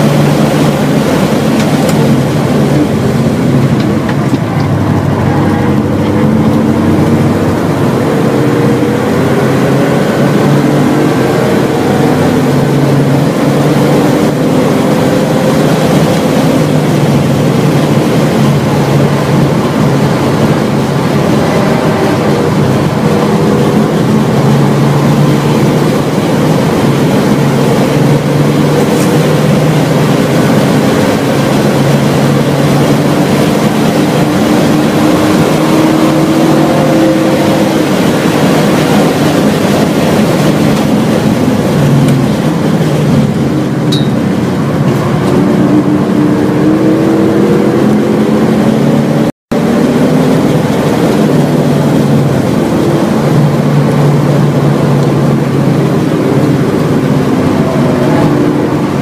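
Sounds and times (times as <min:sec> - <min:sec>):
car engine revving under acceleration: 0:00.0 - 0:59.0
wind and tyre noise: 0:00.0 - 0:59.0.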